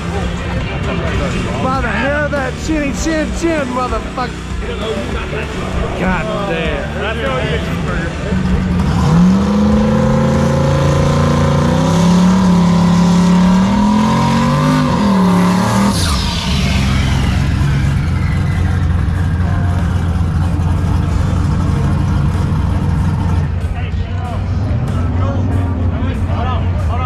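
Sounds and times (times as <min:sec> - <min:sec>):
high whine: 0:00.0 - 0:27.0
racing car engine at full throttle: 0:00.0 - 0:27.0
steady rumble: 0:00.0 - 0:27.0.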